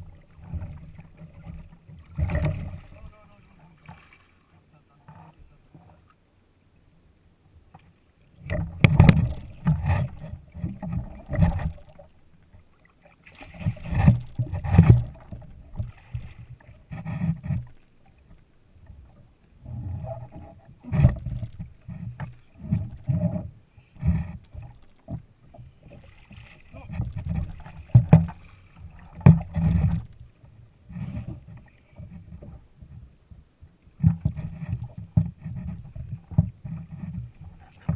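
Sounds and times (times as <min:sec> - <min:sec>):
knocks and clatter on kayak: 0:00.0 - 0:03.2, 0:08.4 - 0:12.6, 0:13.2 - 0:37.9.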